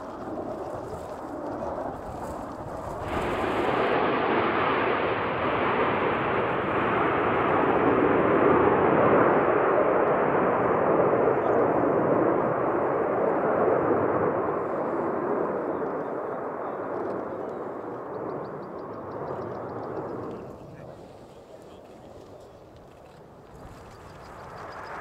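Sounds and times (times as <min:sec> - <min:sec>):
jet fighters flying overhead: 0:00.0 - 0:25.0.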